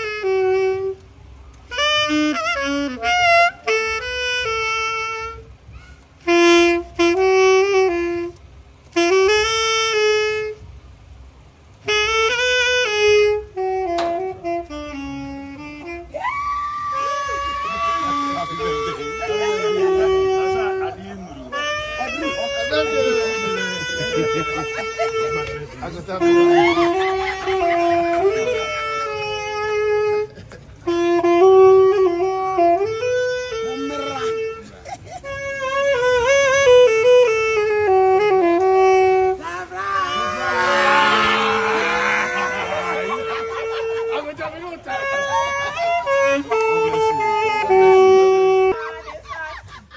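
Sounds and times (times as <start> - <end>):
saxophone slow melody: 0.0 - 49.0.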